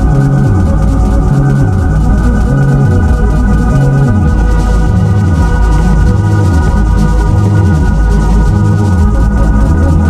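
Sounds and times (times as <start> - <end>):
deep bass line: 0.0 - 10.0
organ-like chords: 0.0 - 10.0.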